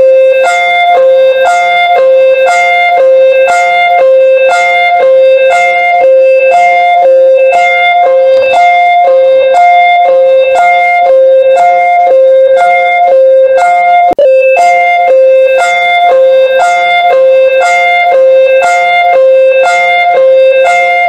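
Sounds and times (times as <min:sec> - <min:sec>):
alternating two-note alarm tone: 0:00.0 - 0:21.0.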